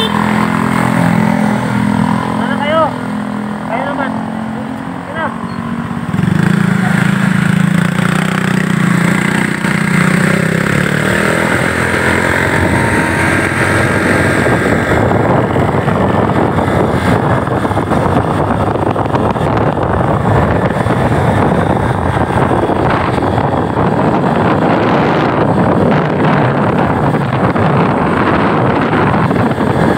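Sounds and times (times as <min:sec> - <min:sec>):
motorcycle engine running: 0:00.0 - 0:29.9
wind rushing across microphone: 0:00.0 - 0:29.9.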